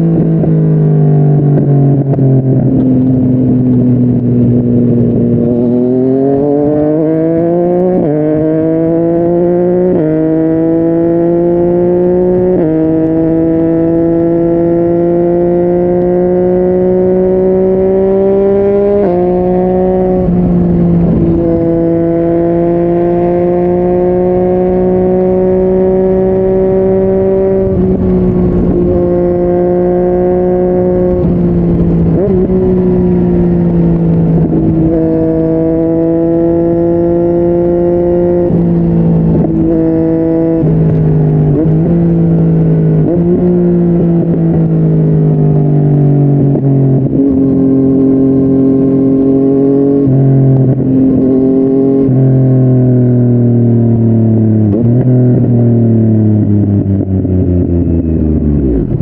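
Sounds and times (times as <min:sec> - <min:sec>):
motorcycle engine with gear changes: 0:00.0 - 0:59.0.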